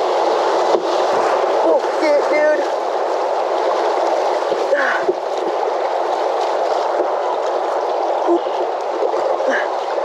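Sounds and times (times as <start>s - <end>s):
river water rushing: 0.0s - 10.0s
water splashing: 0.0s - 10.0s.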